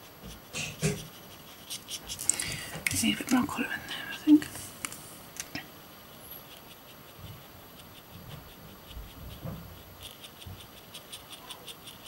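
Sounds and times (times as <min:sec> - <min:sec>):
paintbrush ticking on card: 0:00.0 - 0:12.0.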